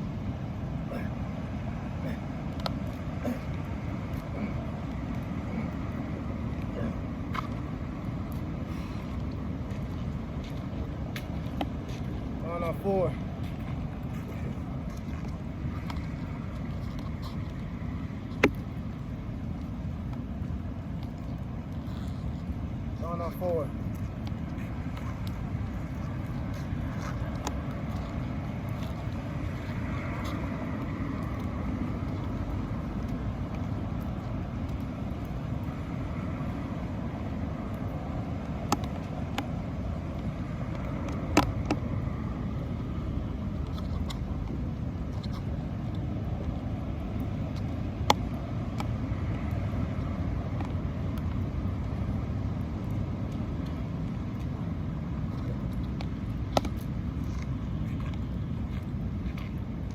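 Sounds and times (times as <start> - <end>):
low outdoor rumble: 0.0 - 59.9.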